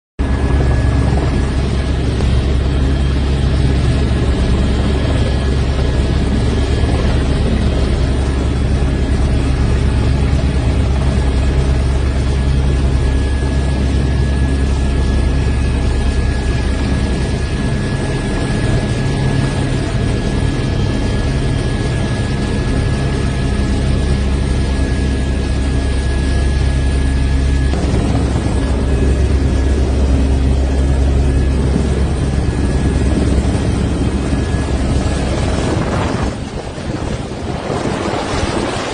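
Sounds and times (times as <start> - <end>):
helicopter rotor and engine roar: 0.2 - 38.9
thin steady whine: 0.2 - 38.9.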